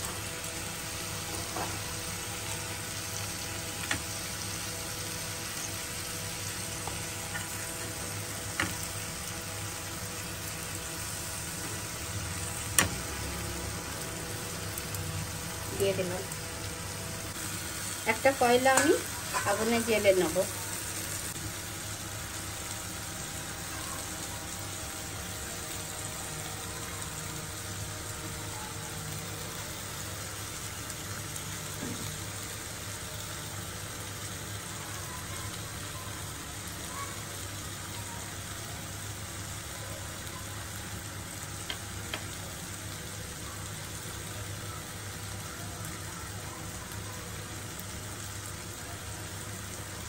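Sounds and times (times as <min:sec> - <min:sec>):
gas burner hiss: 0:00.0 - 0:50.0.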